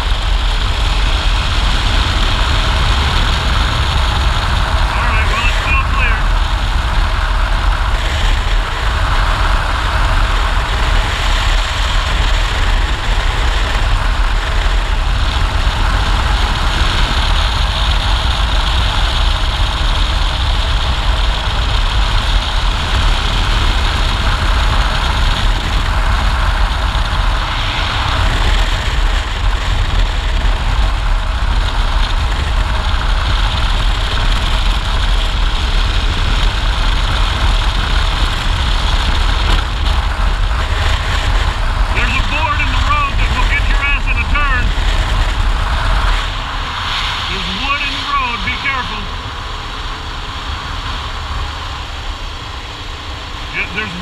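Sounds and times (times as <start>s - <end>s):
motorcycle engine drone: 0.0s - 54.0s
wind rushing on microphone: 0.0s - 54.0s.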